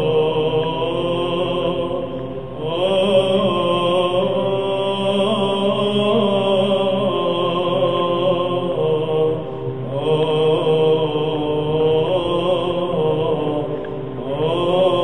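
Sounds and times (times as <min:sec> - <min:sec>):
slow vocal chant: 0:00.0 - 0:15.0
sustained drone: 0:00.0 - 0:15.0.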